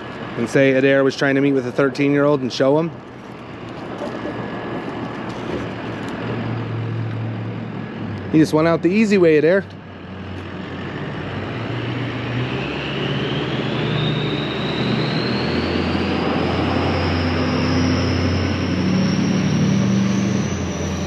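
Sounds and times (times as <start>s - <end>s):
engine with thin whine: 0.0s - 21.0s.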